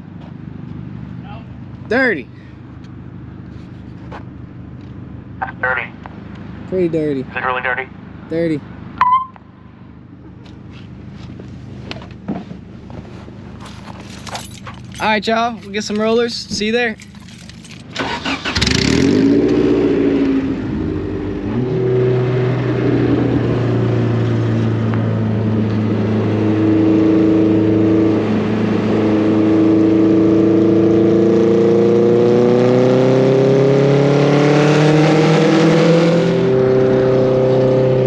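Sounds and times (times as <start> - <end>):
car engine starting and running: 0.0 - 38.0.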